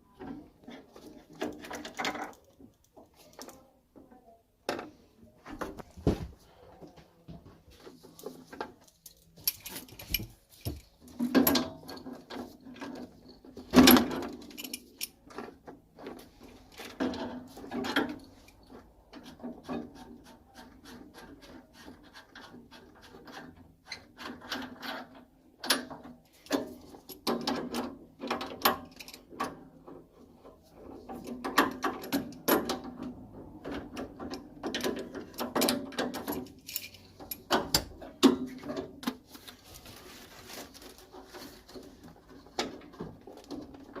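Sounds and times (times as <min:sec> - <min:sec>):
tools clicking and knocking on metal: 0:00.2 - 0:03.6, 0:08.1 - 0:39.2, 0:41.6 - 0:44.0.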